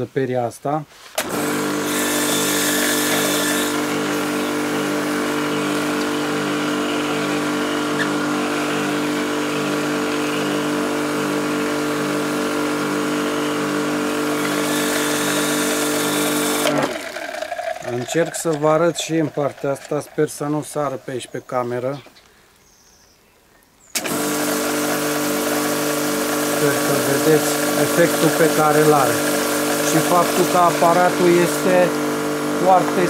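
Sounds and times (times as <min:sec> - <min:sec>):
pressure washer motor humming: 0:01.2 - 0:21.3, 0:24.0 - 0:33.0.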